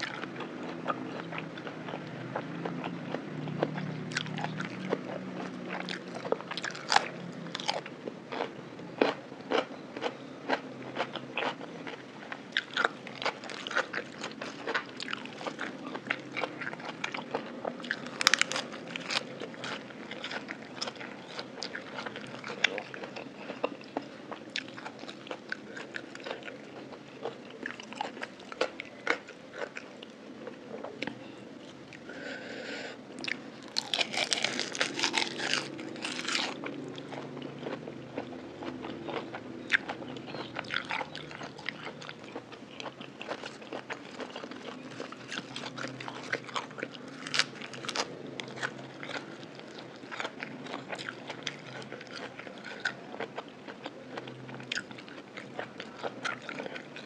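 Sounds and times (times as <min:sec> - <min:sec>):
close eating and wet chewing: 0:00.0 - 0:57.0.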